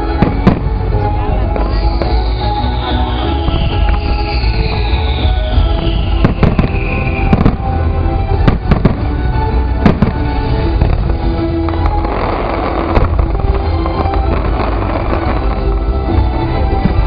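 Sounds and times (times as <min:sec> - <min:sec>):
fireworks bangs: 0:00.0 - 0:17.0
show music: 0:00.0 - 0:17.0.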